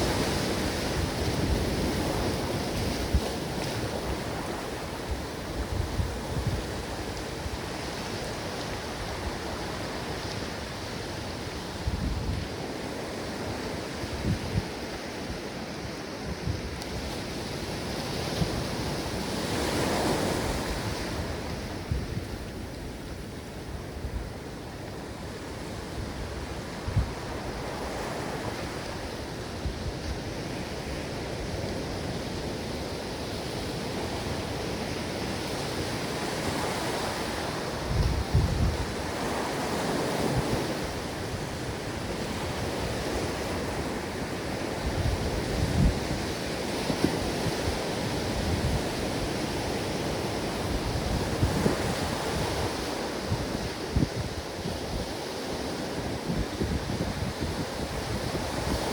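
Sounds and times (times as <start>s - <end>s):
ocean waves washing onto shore: 0.0s - 58.9s
wind buffeting microphone: 0.0s - 58.9s.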